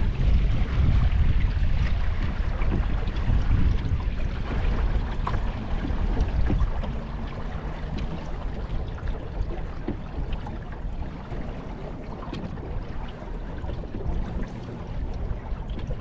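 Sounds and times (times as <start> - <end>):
water lapping against hull: 0.0 - 16.0
wind noise on microphone: 0.0 - 16.0.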